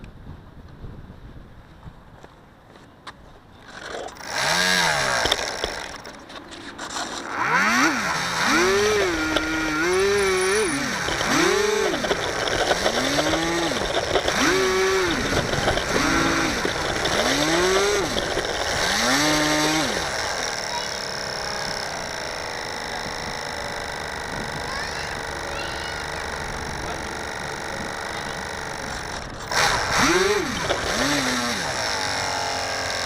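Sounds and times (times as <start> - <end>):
model plane motor whining: 3.7 - 33.0.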